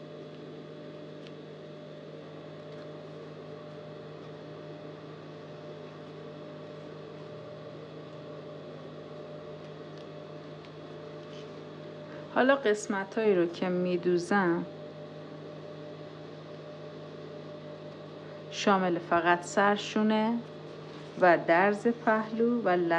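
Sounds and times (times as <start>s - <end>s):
electrical hum: 0.0s - 22.9s.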